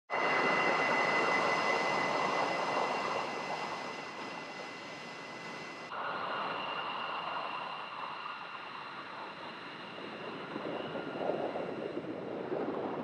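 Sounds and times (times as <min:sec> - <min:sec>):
jet engines idling whine: 0:00.1 - 0:13.0.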